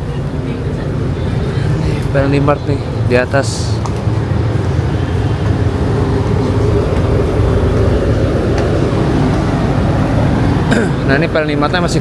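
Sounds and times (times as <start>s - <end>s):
ship machinery drone: 0.0s - 12.0s.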